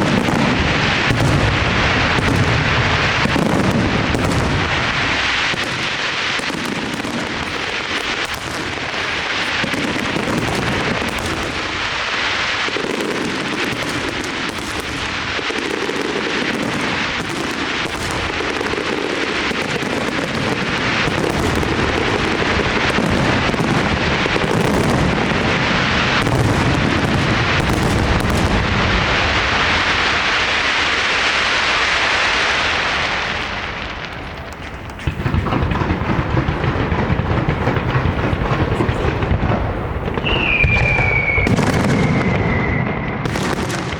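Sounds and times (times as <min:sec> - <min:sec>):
fireworks shells bursting: 0:00.0 - 0:25.5, 0:26.3 - 0:43.9
fireworks crackle: 0:00.0 - 0:43.9.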